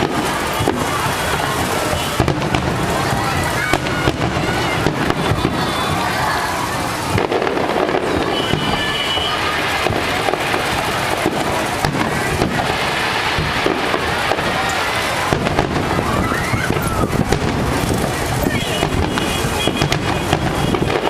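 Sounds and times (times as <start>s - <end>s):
fireworks crackling: 0.0s - 21.0s
fireworks whistling: 0.0s - 21.0s.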